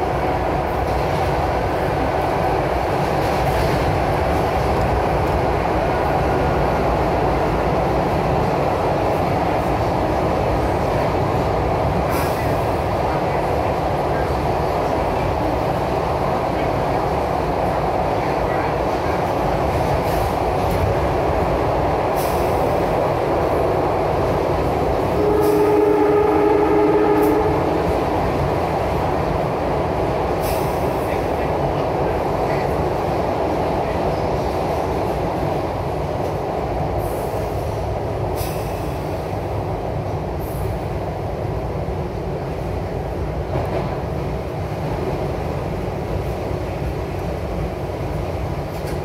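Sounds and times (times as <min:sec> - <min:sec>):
subway train rumbling: 0:00.0 - 0:49.0.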